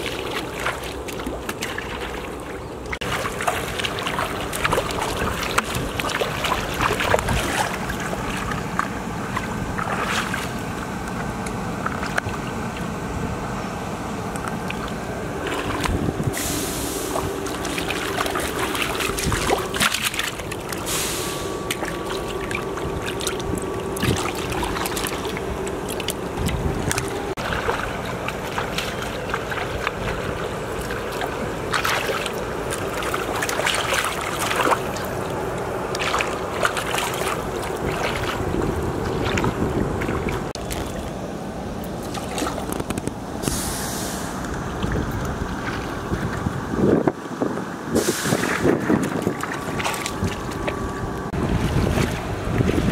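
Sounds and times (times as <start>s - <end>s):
sharp water splashes: 0.0s - 12.9s, 14.4s - 41.2s, 41.8s - 46.8s, 48.0s - 52.9s
muddy water sloshing: 0.0s - 52.9s.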